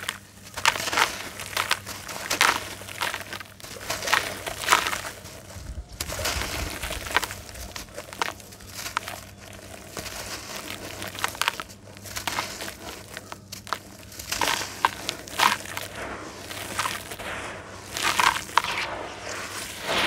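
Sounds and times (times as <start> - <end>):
crumbs falling into water: 0.0 - 20.0
dry dirt crumbling by hand: 0.0 - 20.0.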